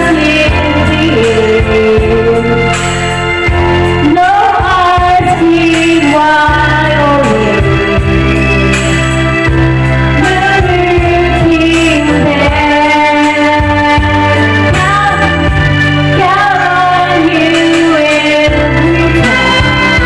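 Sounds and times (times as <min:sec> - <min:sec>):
instrumental backing track: 0:00.0 - 0:20.0
woman singing into microphone: 0:00.0 - 0:20.0.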